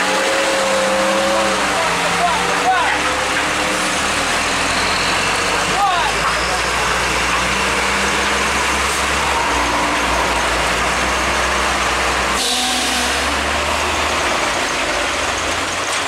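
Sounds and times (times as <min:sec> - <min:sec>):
truck engines in traffic: 0:00.0 - 0:16.0.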